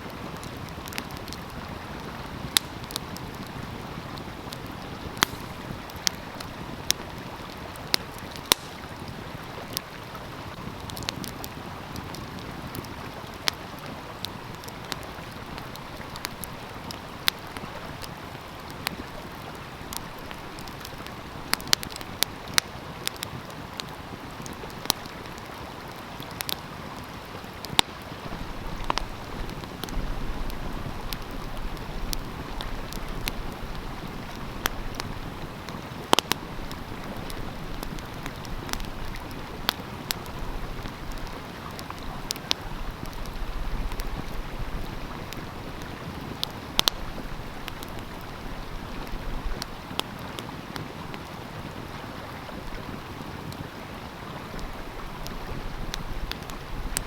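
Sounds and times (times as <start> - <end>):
wind on microphone rumble: 0.0 - 24.7, 28.1 - 57.0
stream flowing: 0.0 - 57.0
wood fire crackling and popping: 0.0 - 57.0.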